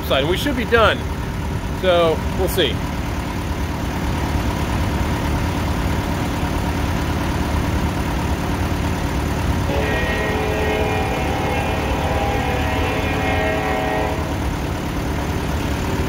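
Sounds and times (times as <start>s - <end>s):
band sawmill running: 0.0s - 16.0s.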